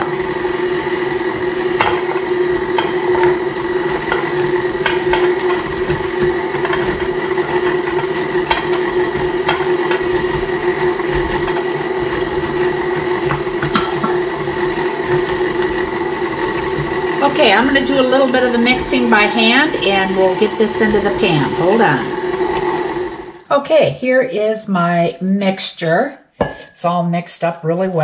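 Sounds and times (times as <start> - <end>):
stand mixer motor hum: 0.0 - 23.4.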